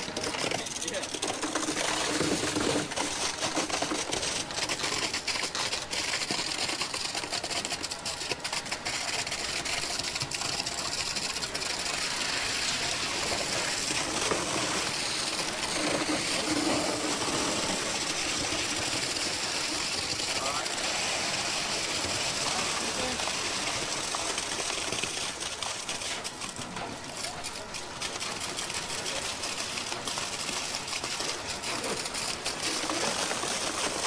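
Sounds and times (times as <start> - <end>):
concrete pump running: 0.0 - 34.0.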